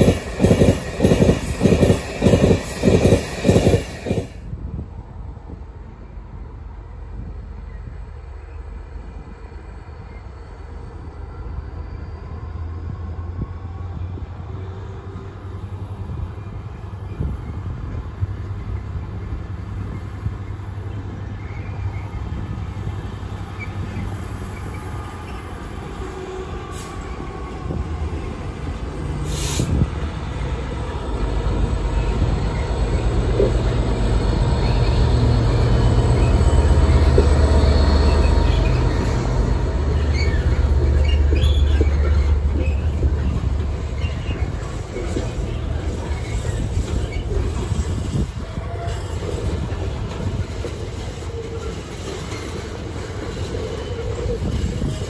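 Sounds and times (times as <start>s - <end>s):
diesel locomotive engine drone: 0.0s - 55.0s
train wagons rumbling on rails: 0.0s - 55.0s.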